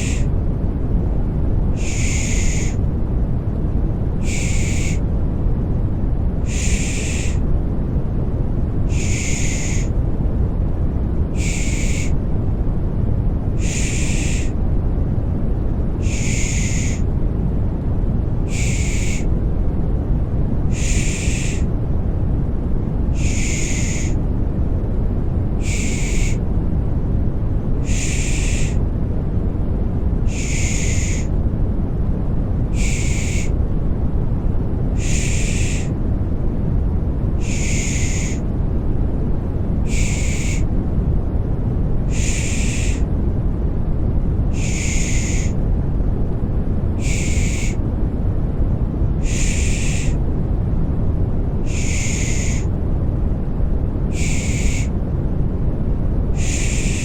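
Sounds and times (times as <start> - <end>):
white noise rumble: 0.0 - 57.0.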